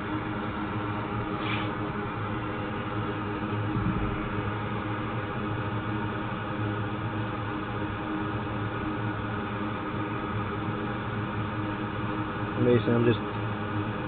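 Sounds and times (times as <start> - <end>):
small fan motor humming: 0.0 - 14.0.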